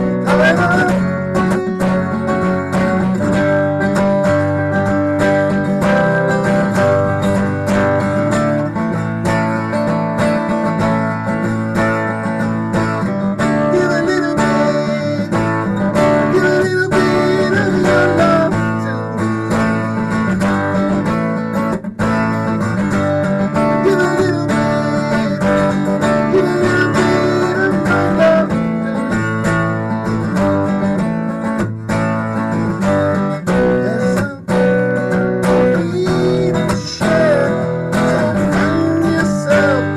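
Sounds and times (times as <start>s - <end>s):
strummed acoustic guitar: 0.0s - 39.9s.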